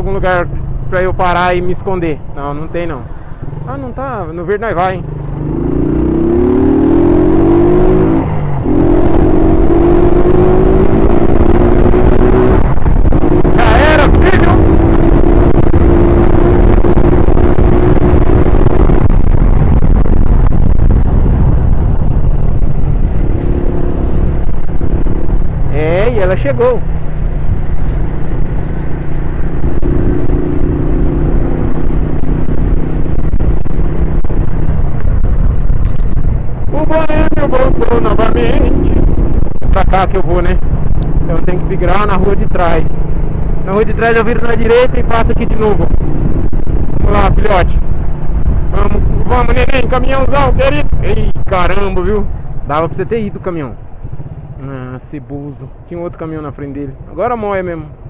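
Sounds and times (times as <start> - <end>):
road noise: 0.0 - 58.0
motorcycle engine accelerating: 3.4 - 54.9
wind noise on microphone: 4.9 - 58.0.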